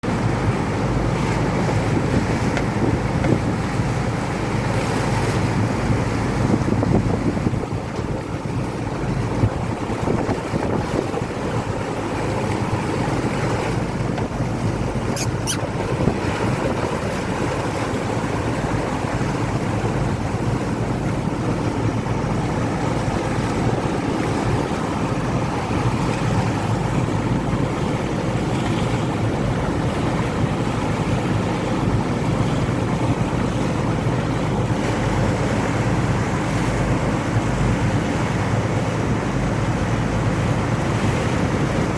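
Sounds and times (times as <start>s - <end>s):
water rushing along hull: 0.0s - 41.9s
wind buffeting microphone: 0.1s - 41.9s.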